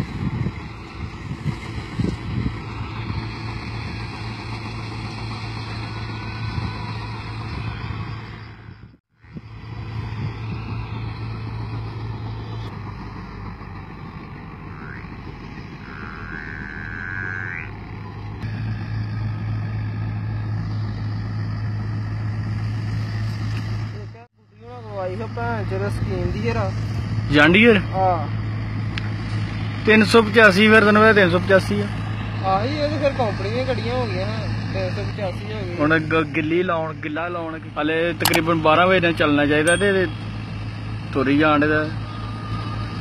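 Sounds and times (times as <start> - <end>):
tractor diesel engine droning: 0.0 - 43.0.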